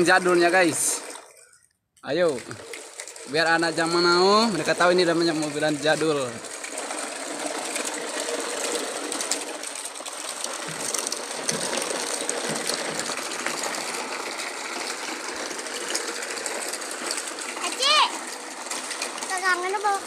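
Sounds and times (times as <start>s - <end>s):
plastic toy wheels rattling: 0.0s - 20.0s.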